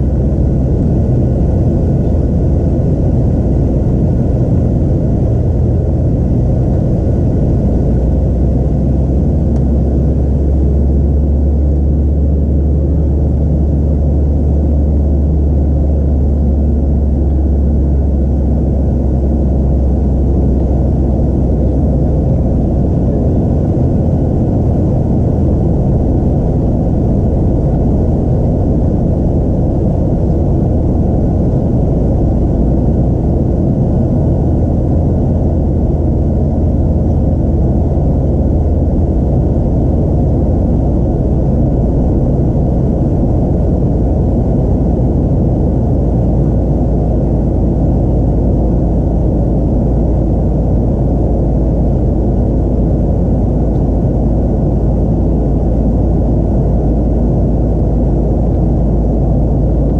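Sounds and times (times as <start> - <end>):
faint steady whine: 0.0 - 59.9
jet engine cabin rumble: 0.0 - 59.9.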